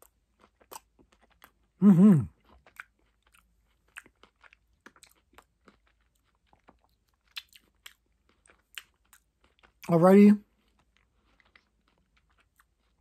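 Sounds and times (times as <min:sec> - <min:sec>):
man chewing: 0:00.0 - 0:13.0.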